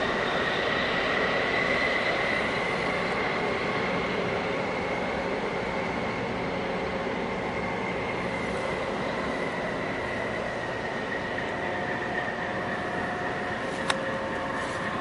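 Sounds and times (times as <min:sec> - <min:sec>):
high mechanical whine: 0:00.0 - 0:15.0
ship engine rumble: 0:00.0 - 0:15.0.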